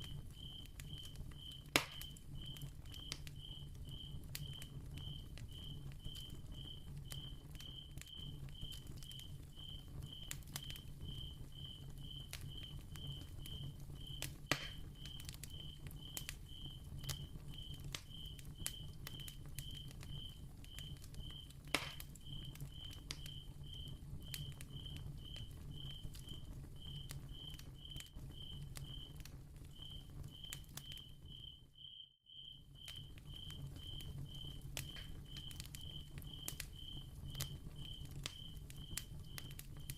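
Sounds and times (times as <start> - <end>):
cricket chirping: 0.0 - 29.1, 29.7 - 39.9
candle flame crackling: 0.0 - 31.8, 32.5 - 39.9.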